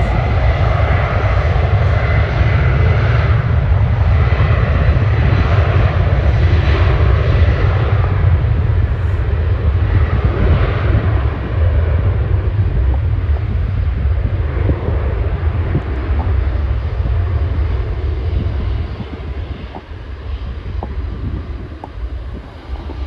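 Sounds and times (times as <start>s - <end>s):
jet engines roaring: 0.0s - 23.0s
wind on microphone: 0.0s - 23.0s.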